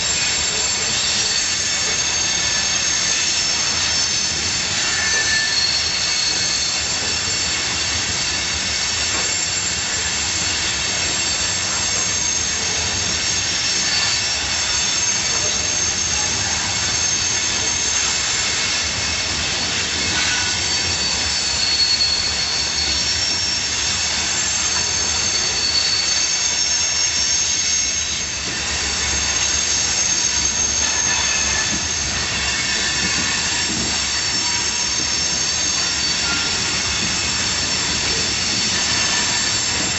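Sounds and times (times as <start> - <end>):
train wheels screeching: 0.0 - 39.9.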